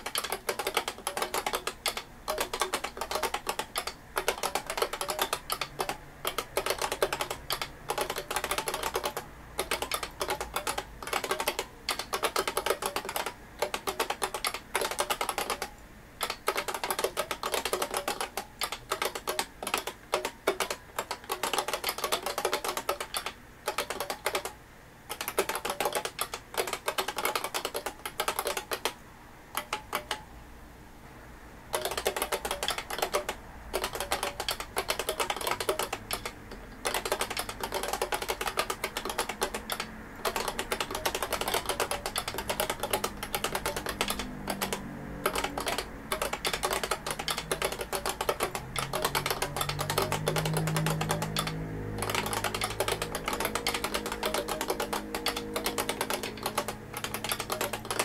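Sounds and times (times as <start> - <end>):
keyboard key clicks: 0.0 - 29.0, 29.6 - 30.2, 31.8 - 58.0.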